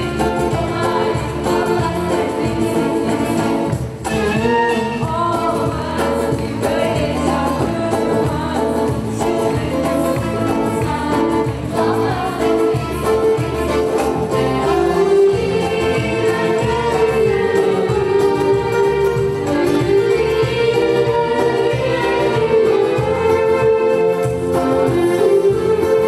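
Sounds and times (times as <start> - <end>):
band accompaniment: 0.0 - 26.0
voices singing together: 0.0 - 26.0.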